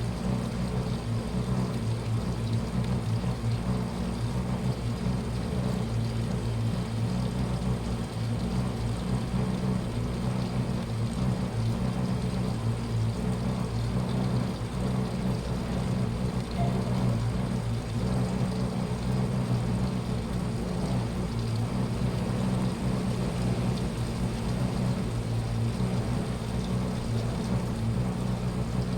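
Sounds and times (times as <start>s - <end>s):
washing machine humming: 0.0s - 28.9s.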